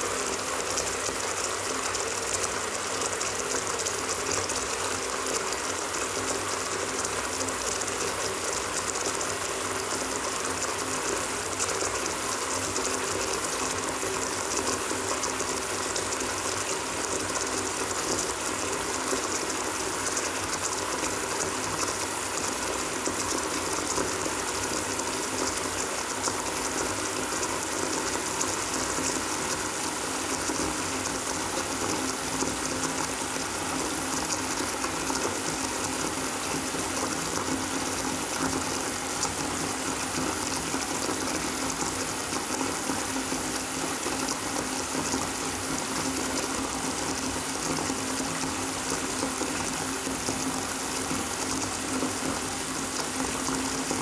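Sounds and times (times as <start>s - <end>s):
water stream splashing into tub: 0.0s - 54.0s.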